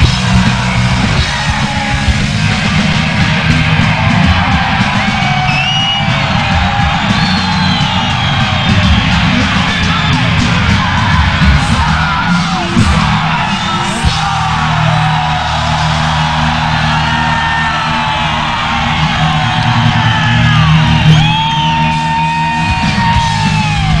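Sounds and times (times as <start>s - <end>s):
metal band playing live: 0.0s - 24.0s.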